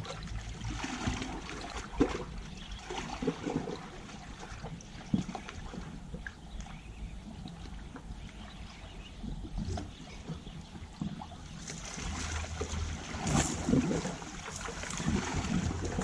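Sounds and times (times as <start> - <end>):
waves lapping against rocks: 0.0 - 16.0.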